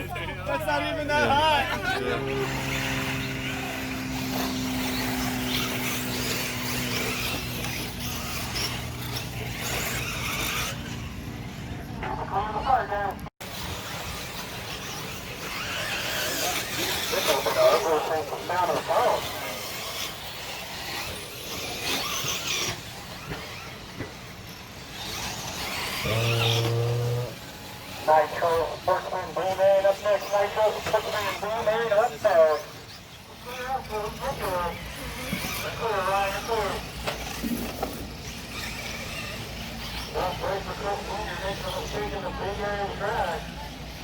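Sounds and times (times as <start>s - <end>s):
rc car engines buzzing: 0.0s - 11.9s, 13.4s - 44.0s
engines revving: 0.0s - 44.0s.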